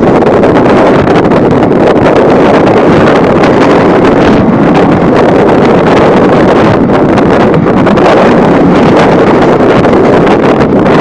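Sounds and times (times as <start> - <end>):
moving train running noise: 0.0 - 11.0
wind buffeting microphone: 0.0 - 11.0.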